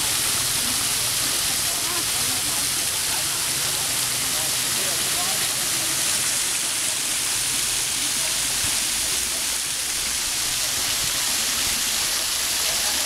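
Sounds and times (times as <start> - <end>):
fountain water splashing into basin: 0.0 - 13.0.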